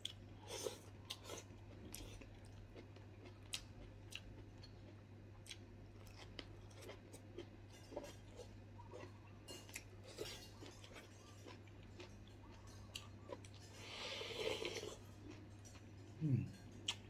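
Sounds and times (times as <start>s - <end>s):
faint chewing: 0.0s - 17.0s
low steady hum: 0.0s - 17.0s.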